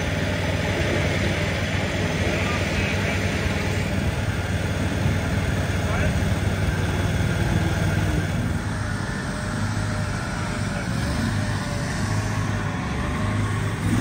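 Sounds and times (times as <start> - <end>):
engine-driven machinery drone: 0.0 - 14.0.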